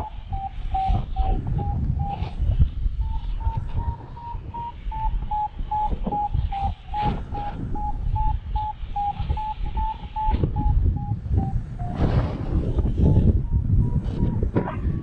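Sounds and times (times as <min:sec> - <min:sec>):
variometer beeping: 0:00.0 - 0:12.0, 0:12.8 - 0:15.0
wind on microphone: 0:00.0 - 0:15.0.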